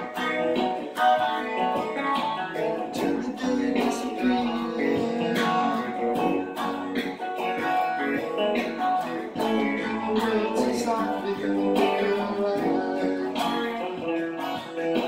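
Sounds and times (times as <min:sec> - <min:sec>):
electric guitar strumming: 0:00.0 - 0:15.0.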